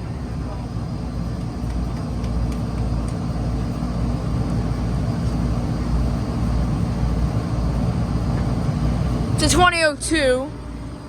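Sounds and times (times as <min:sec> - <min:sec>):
compressor hum: 0:00.0 - 0:11.0
condenser fans whooshing: 0:00.0 - 0:11.0.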